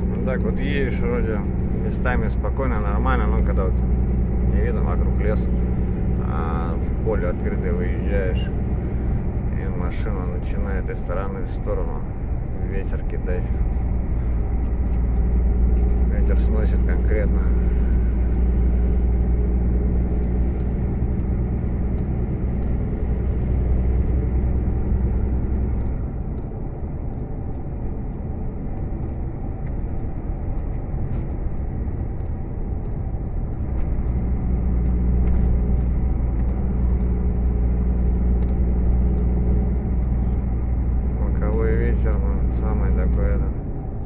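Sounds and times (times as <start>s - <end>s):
road noise: 0.0s - 44.0s
truck diesel engine droning: 0.0s - 44.0s.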